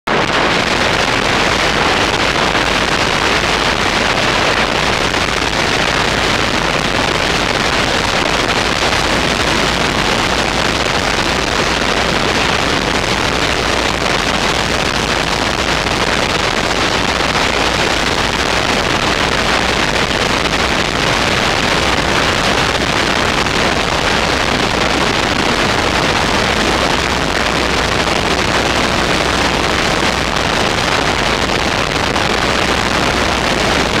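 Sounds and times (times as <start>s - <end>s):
road noise: 0.1s - 34.0s
wind noise over microphone: 0.1s - 34.0s.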